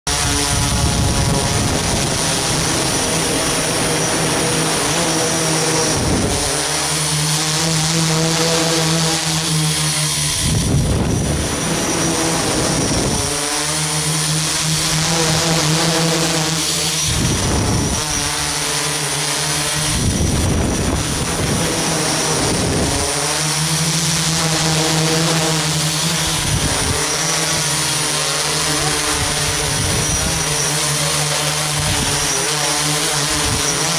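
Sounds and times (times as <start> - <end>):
drone motors whining: 0.1 - 33.9.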